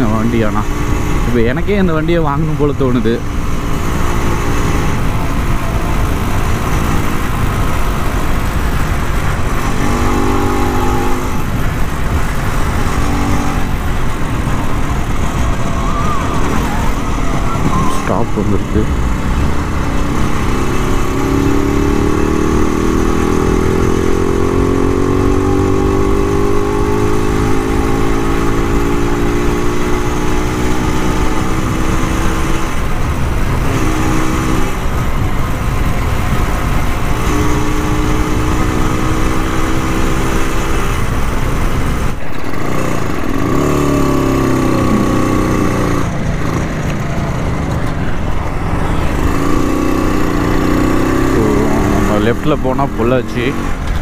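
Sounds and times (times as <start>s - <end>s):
two-stroke motorcycle engine: 0.0s - 54.0s
wind and road noise: 0.0s - 54.0s.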